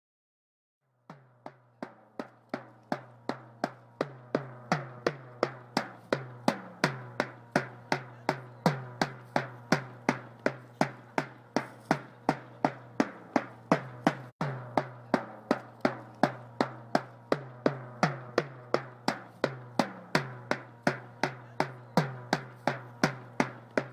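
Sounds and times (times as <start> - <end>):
drum beating steadily: 1.0 - 23.9.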